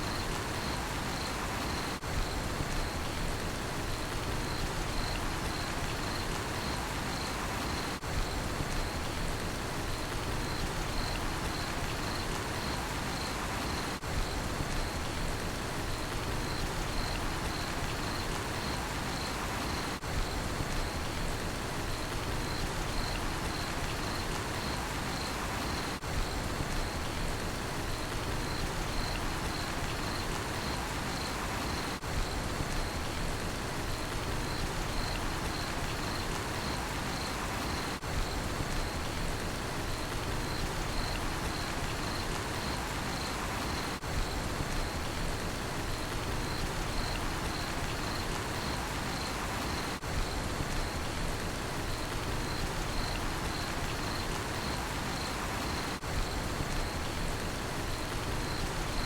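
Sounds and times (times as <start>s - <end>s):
cricket chirping: 0.0s - 3.2s, 3.9s - 9.2s, 9.9s - 15.2s, 15.9s - 21.2s, 21.9s - 27.2s, 27.8s - 33.2s, 33.9s - 59.0s
rain falling: 0.0s - 59.0s.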